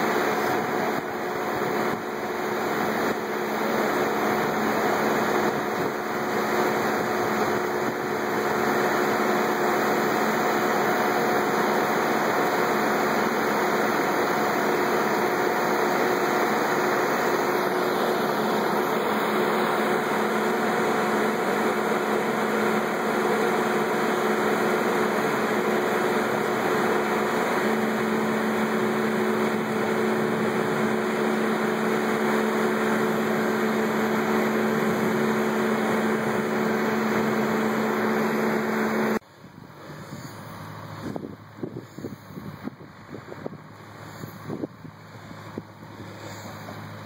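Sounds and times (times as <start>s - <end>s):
engine droning hum: 0.0s - 47.0s.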